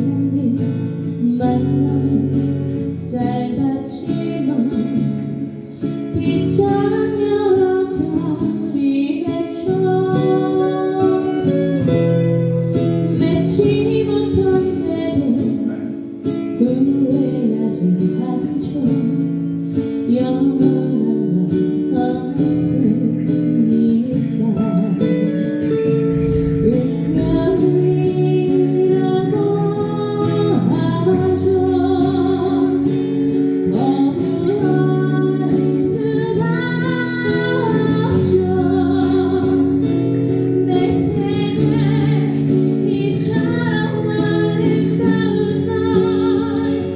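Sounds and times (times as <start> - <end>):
plucked acoustic guitar chords: 0.0 - 46.9.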